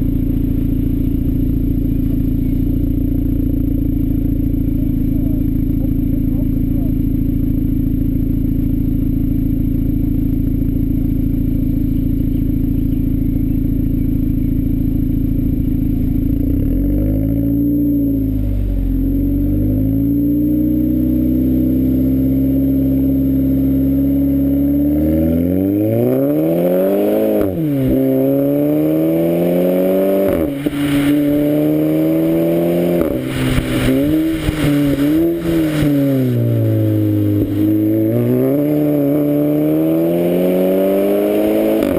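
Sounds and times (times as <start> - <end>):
car engine idling and accelerating: 0.0 - 41.9
exhaust crackles: 0.0 - 41.9.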